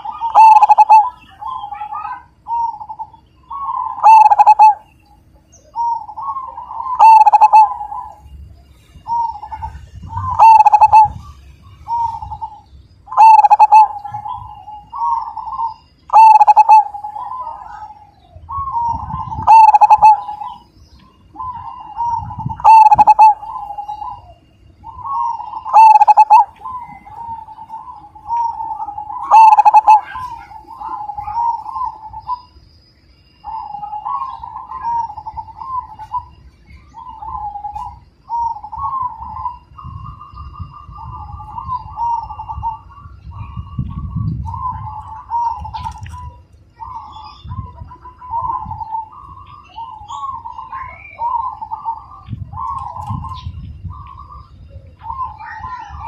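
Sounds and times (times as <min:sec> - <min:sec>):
dove cooing: 0:00.0 - 0:32.6, 0:33.4 - 0:56.0.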